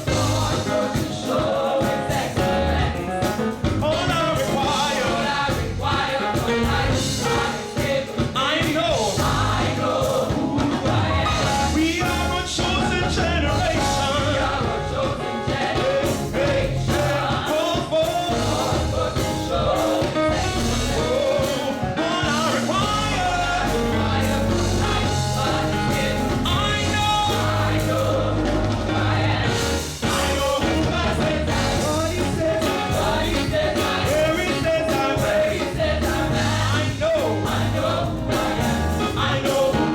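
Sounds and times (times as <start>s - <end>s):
band with bass and drums: 0.0s - 39.9s
choir singing gospel: 0.0s - 39.9s.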